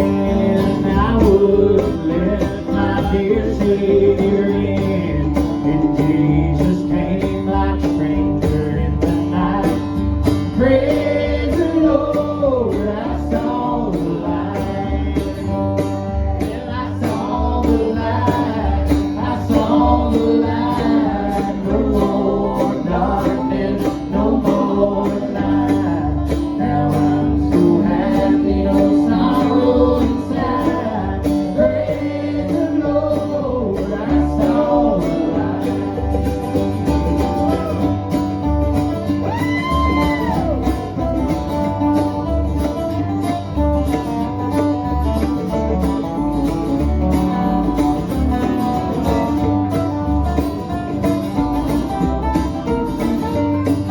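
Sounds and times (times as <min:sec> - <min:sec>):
country band music with guitar: 0:00.0 - 0:53.9.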